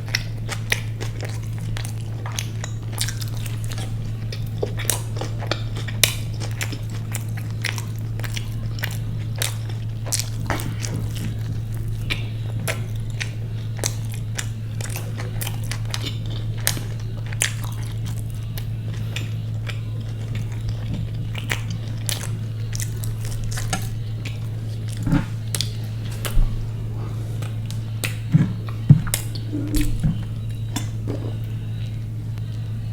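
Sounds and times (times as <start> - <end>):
person chewing crunchy food: 0.0 - 32.9
steady low hum: 0.0 - 32.9.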